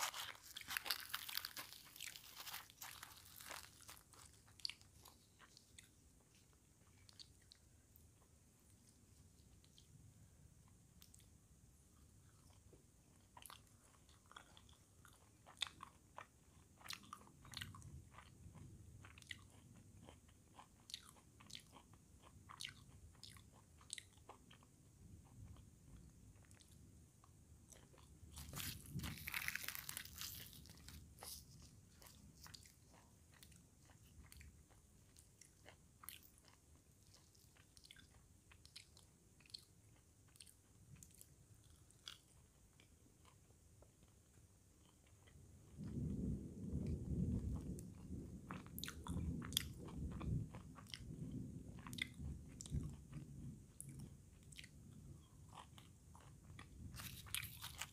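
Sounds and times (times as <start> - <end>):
person chewing crunchy food: 0.0 - 10.0, 12.0 - 57.9.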